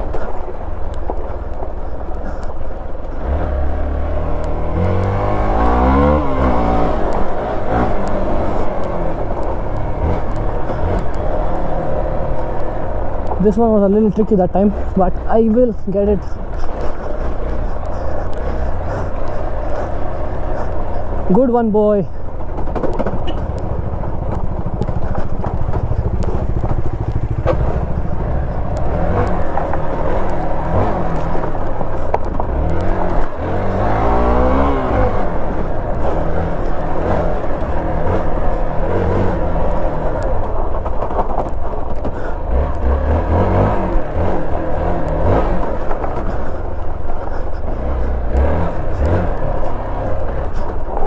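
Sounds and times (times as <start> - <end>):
motorcycle engine revving: 3.0 - 13.6, 14.7 - 51.0.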